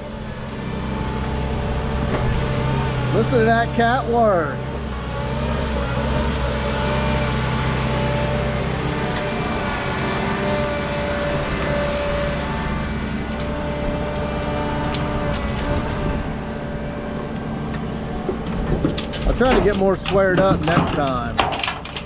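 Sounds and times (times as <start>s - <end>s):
bulldozer diesel engine droning: 0.0s - 22.0s.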